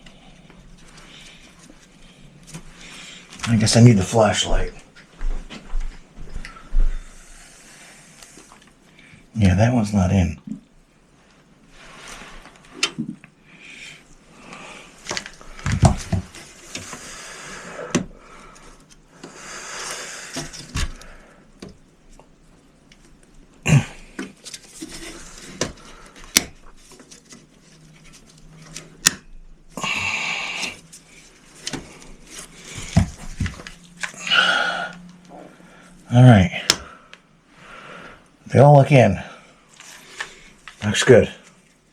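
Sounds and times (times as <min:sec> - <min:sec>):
rustling handling noise: 0:00.0 - 0:09.4, 0:10.5 - 0:37.4, 0:38.2 - 0:41.9.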